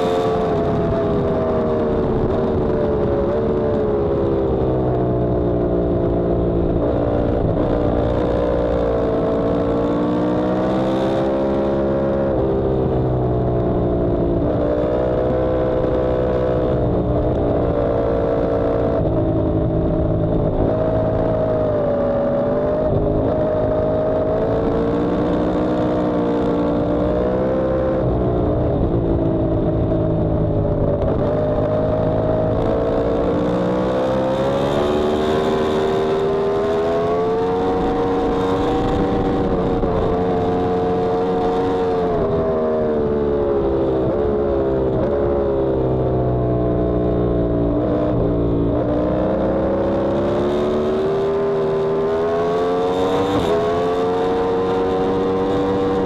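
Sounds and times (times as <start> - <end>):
motorcycle engine revving: 5.4 - 13.2, 13.8 - 56.0.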